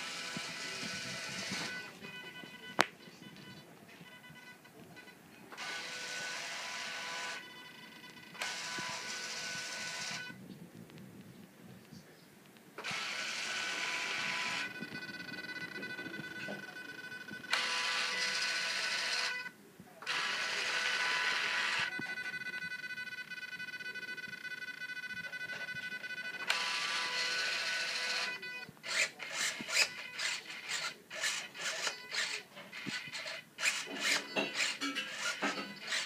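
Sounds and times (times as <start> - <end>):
high-pitched servo motor whine: 0.0 - 2.4, 5.5 - 10.4, 12.8 - 19.5, 20.1 - 36.0.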